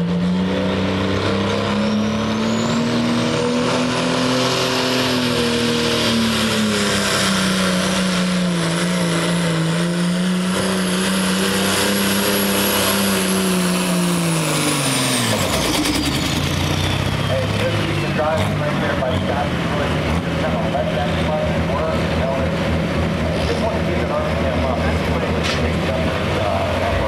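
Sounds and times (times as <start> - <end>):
diesel tractor engine under load: 0.0 - 27.0.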